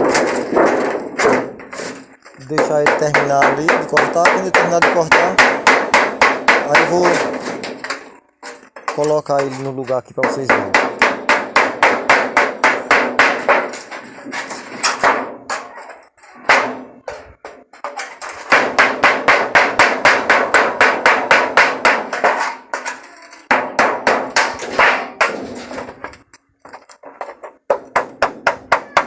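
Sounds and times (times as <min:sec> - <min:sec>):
wood striking knife through sheet metal: 0:00.0 - 0:29.0.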